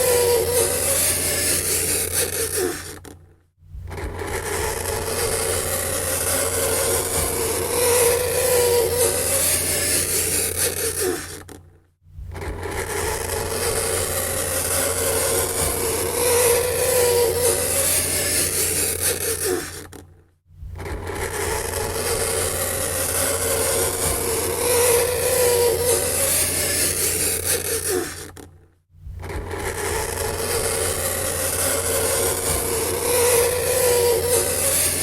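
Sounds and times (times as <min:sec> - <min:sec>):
fingernails screeching on chalkboard: 0:00.0 - 0:03.2, 0:03.9 - 0:11.6, 0:12.4 - 0:20.0, 0:21.1 - 0:28.5, 0:29.2 - 0:35.0.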